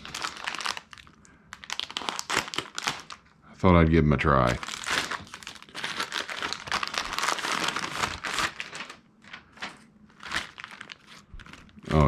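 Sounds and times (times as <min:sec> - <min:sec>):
packaging crinkling and rustling: 0:00.0 - 0:03.3, 0:04.4 - 0:12.0.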